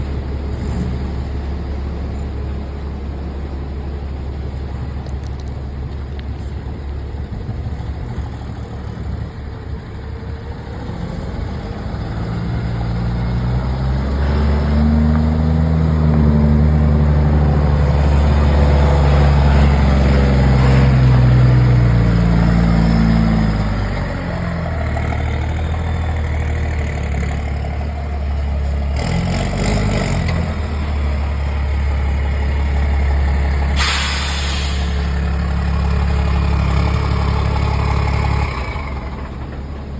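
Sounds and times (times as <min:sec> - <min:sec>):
diesel truck engine revving: 0:00.0 - 0:05.0, 0:06.6 - 0:39.9.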